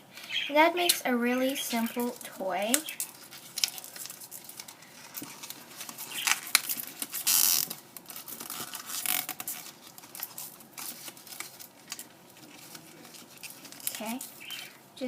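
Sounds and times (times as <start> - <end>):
drinking straws rustling and clicking: 1.6 - 14.8.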